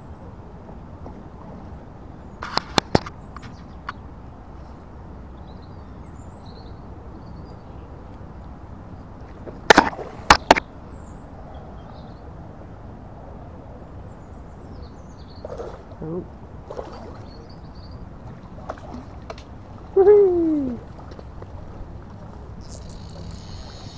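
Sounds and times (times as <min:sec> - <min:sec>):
outdoor background hiss: 0:00.0 - 0:23.9.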